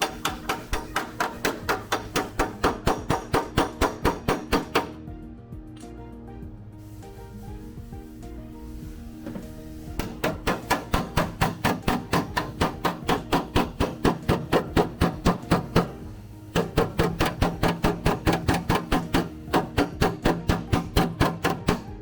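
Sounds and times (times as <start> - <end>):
hammer tapping sheet metal: 0.0 - 5.0, 9.2 - 22.0
background music: 0.0 - 22.0.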